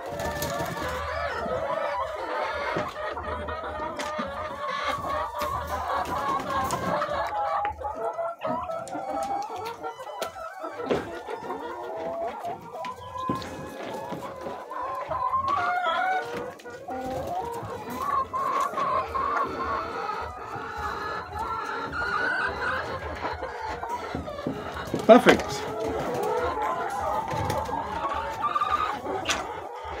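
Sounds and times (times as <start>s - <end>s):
hens clucking: 0.0s - 30.0s.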